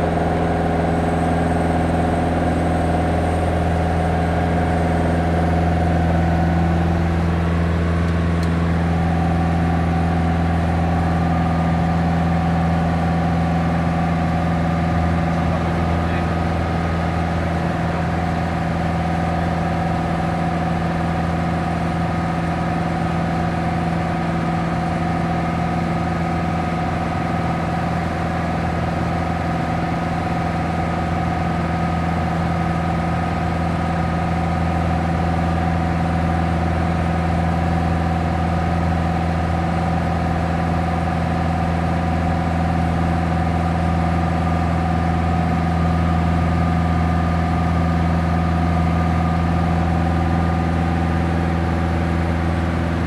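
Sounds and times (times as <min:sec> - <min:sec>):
aircraft engine droning in cabin: 0:00.0 - 0:53.0.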